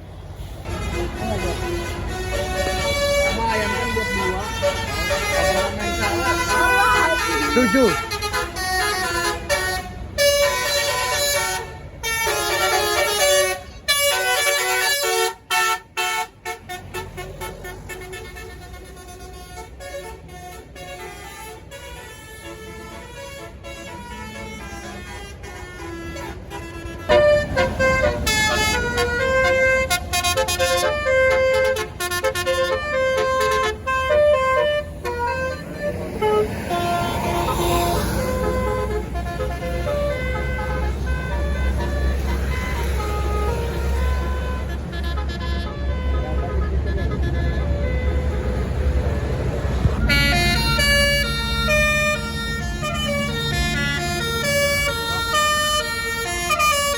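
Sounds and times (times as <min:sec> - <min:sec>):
low engine rumble: 0:00.0 - 0:56.9
musical air horn playing melodies: 0:00.6 - 0:56.9.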